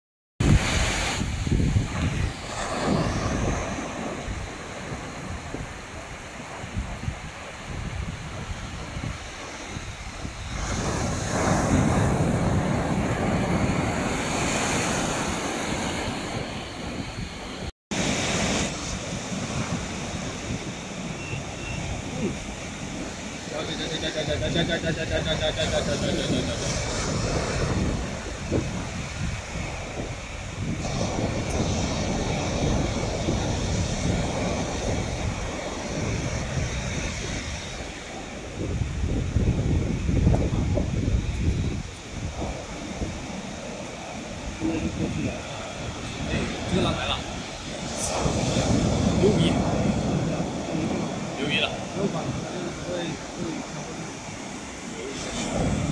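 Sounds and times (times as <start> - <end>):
surf breaking on beach: 0.4 - 55.9
wind buffeting microphone: 0.4 - 55.9.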